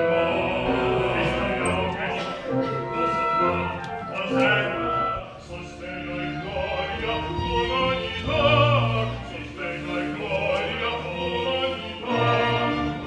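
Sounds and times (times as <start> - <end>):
operatic voice singing: 0.0 - 13.0
orchestral classical music: 0.0 - 13.0.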